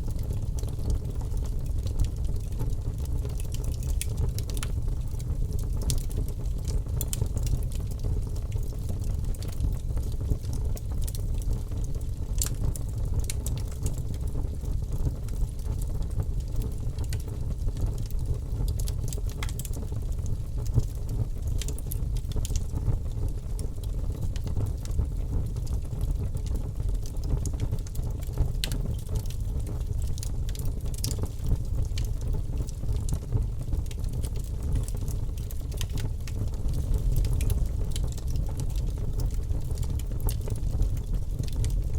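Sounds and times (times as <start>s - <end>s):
flames rumbling: 0.1s - 41.9s
wood crackling and popping: 0.1s - 41.9s.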